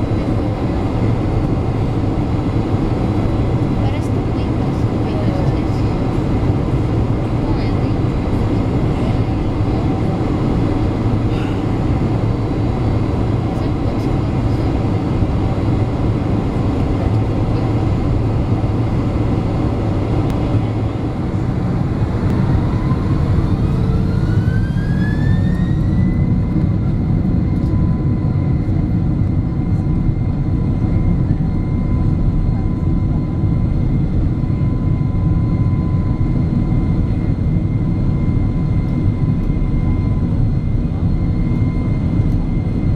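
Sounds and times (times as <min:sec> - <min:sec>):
jet engine cabin rumble: 0:00.0 - 0:42.9
jet engine whine rising: 0:00.0 - 0:42.9.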